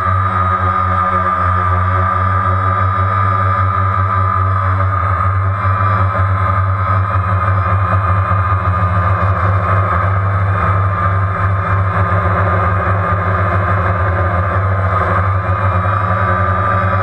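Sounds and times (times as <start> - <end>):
drone motors humming: 0.0 - 17.0.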